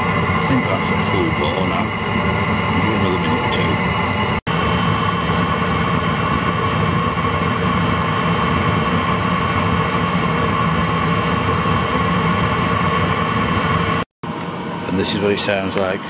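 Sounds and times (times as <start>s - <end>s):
diesel heater exhaust rushing: 0.0s - 16.0s.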